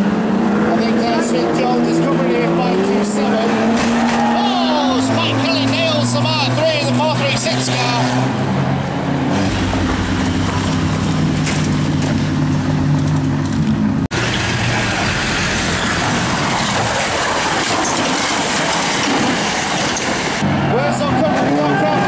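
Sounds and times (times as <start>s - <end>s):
racing car engines running: 0.0s - 22.0s
rough rushing noise: 0.5s - 22.0s.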